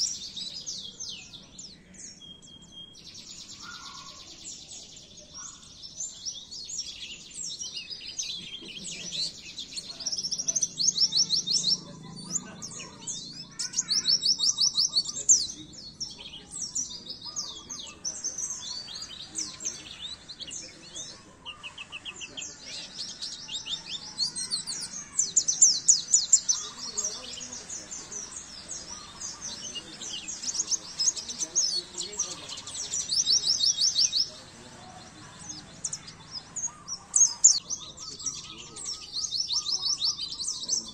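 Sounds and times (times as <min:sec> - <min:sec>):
bird twittering and trilling: 0:00.0 - 0:40.9.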